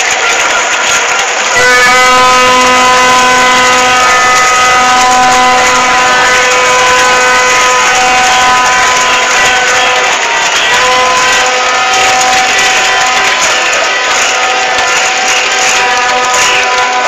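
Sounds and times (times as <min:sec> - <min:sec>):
loud steady horn: 0:00.3 - 0:17.0.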